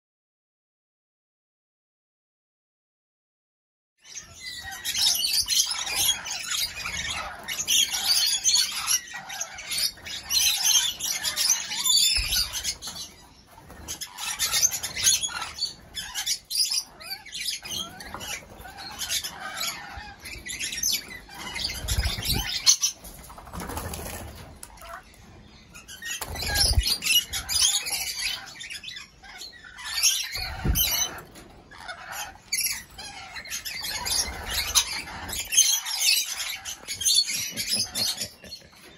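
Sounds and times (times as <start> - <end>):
parrots chattering and screeching: 4.0 - 38.9.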